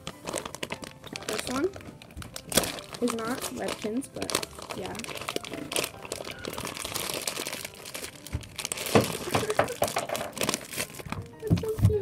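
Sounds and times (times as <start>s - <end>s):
plastic mailer bag crinkling: 0.0s - 12.0s.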